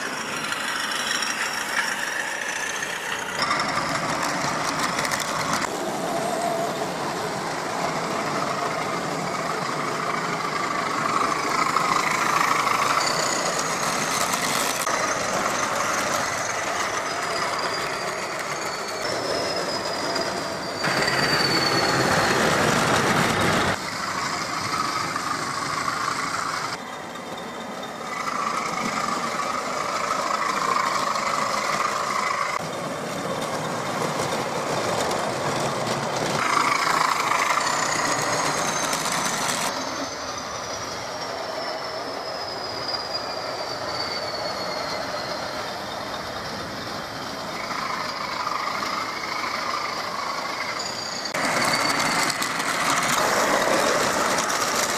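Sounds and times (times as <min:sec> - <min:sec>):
model train wheels rattling: 0:00.0 - 0:05.7, 0:07.2 - 0:26.8, 0:28.0 - 0:39.7, 0:47.4 - 0:54.9.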